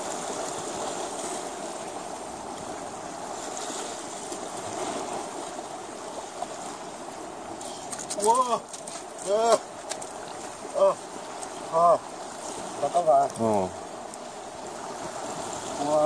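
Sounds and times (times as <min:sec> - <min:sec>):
sea water washing against rocks: 0:00.0 - 0:16.0.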